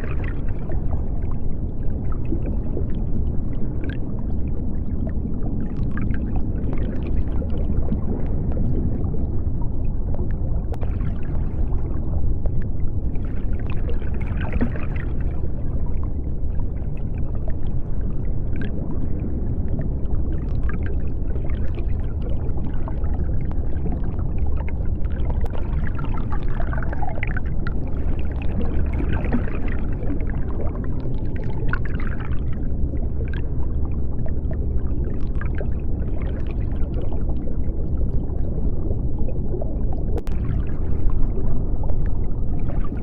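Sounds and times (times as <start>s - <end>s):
low underwater rumble: 0.0s - 43.0s.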